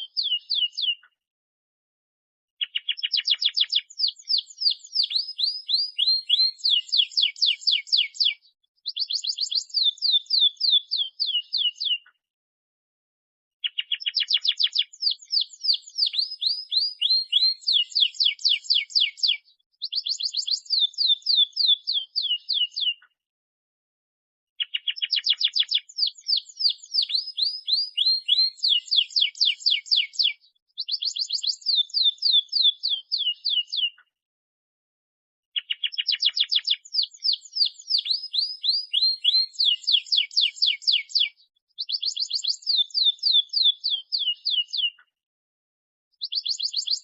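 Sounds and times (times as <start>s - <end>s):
canary singing trills: 0.0s - 1.1s, 2.6s - 12.1s, 13.6s - 23.0s, 24.6s - 34.0s, 35.6s - 45.1s, 46.2s - 47.0s.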